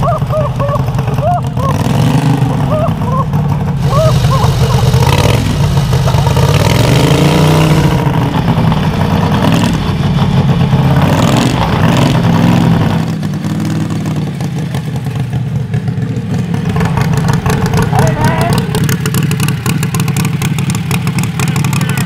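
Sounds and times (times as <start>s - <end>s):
lawn mower engine running hard: 0.0s - 22.0s.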